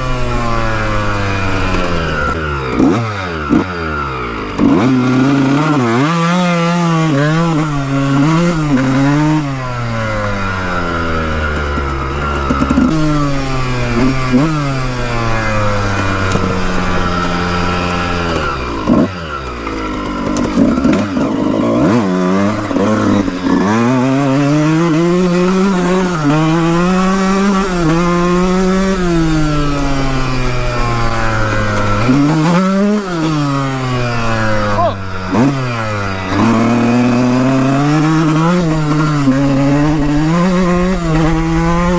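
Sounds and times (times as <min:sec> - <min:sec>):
dirt bike engine: 0:00.0 - 0:41.9.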